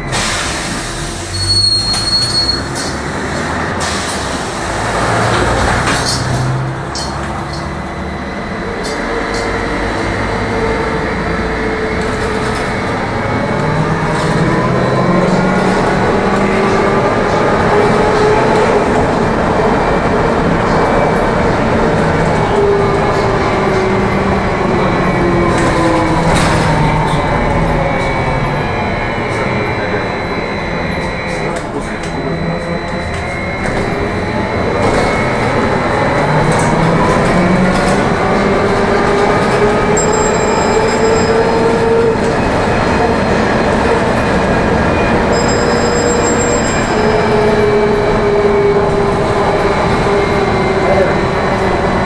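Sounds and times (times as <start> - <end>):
tyre and road noise: 0.0 - 52.0.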